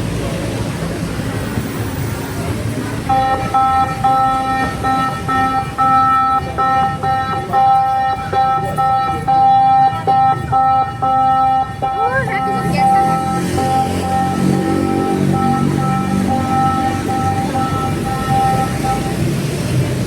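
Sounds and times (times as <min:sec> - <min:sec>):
street traffic rumble: 0:00.0 - 0:20.0
steady high tones: 0:03.1 - 0:20.0.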